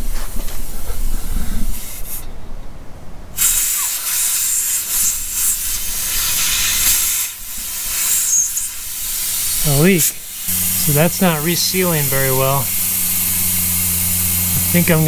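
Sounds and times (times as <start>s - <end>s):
compressed air hissing from leak: 0.0s - 2.3s, 3.4s - 15.0s.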